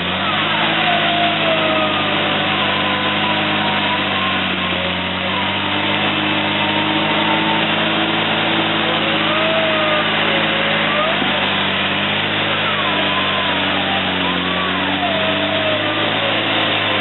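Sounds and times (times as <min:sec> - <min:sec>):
electric winch whining: 0:00.0 - 0:17.0
vehicle engine running: 0:00.0 - 0:17.0.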